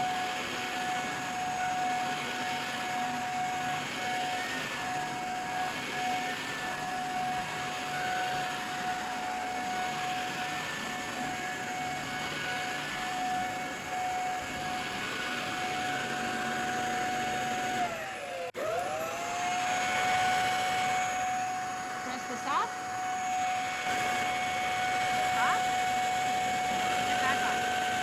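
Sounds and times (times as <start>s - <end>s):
vacuum cleaner whining: 0.0s - 28.0s.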